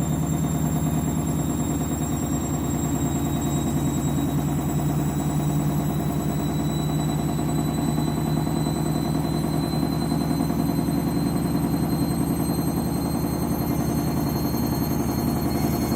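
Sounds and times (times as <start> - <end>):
high motor whine: 0.0 - 15.9.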